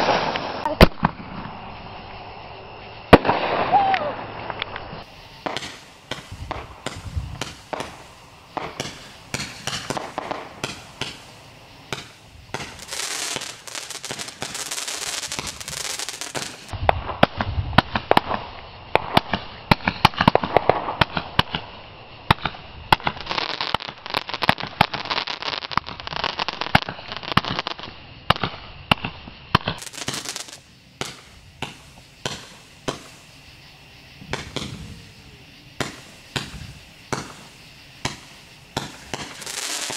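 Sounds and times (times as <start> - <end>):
fireworks popping and cracking: 0.0 - 1.6, 3.1 - 4.8, 5.4 - 33.4, 34.2 - 35.2, 35.8 - 39.9
hissing shower of crackles: 0.0 - 39.9
loud firework bangs: 3.1 - 4.2, 5.4 - 27.7, 28.3 - 33.4, 34.2 - 35.2, 35.8 - 39.9.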